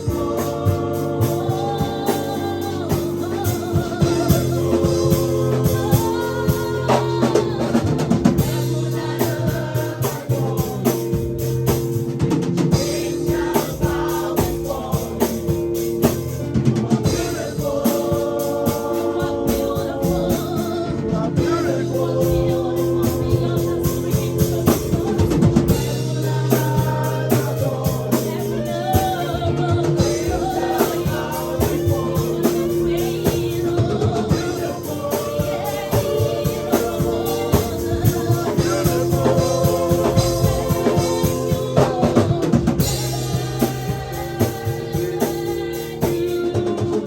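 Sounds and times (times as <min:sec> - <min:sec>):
band playing: 0:00.0 - 0:47.0
steady drum beat: 0:00.0 - 0:47.0
voices singing gospel: 0:00.0 - 0:47.0.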